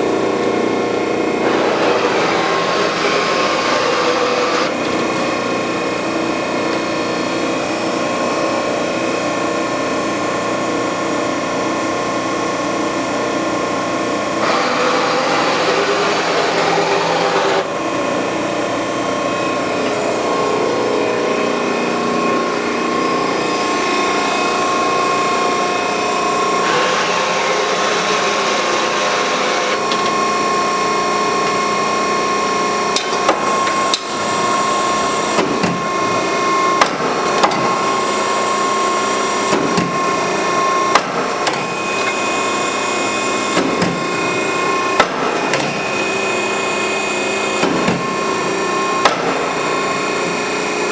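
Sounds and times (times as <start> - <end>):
hydraulic power unit humming: 0.0 - 50.9.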